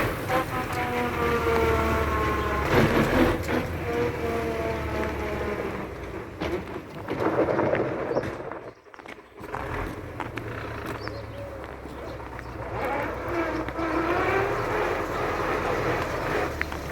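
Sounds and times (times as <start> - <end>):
tractor engine rumbling: 0.0 - 16.9.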